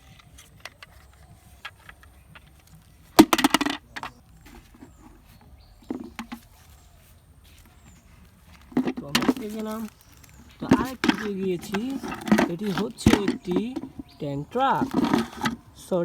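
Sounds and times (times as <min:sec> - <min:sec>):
sharp toy clatter: 0:00.0 - 0:05.3, 0:07.5 - 0:15.7
plastic toys clicking and rustling: 0:00.0 - 0:16.0.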